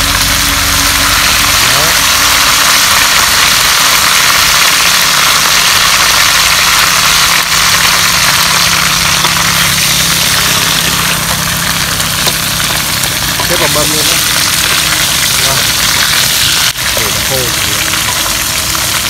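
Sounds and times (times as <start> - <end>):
low steady hum: 0.0 - 19.0
meat sizzling in a wok: 0.0 - 19.0.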